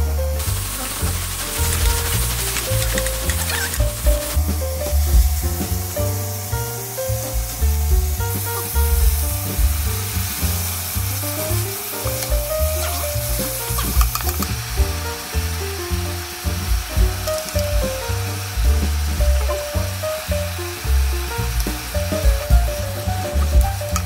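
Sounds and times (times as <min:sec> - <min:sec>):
food sizzling in a hot pan: 0:00.3 - 0:24.0.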